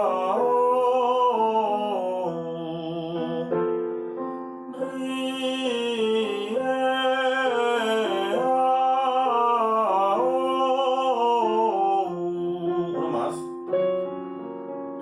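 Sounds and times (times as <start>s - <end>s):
piano accompaniment: 0.0s - 15.0s.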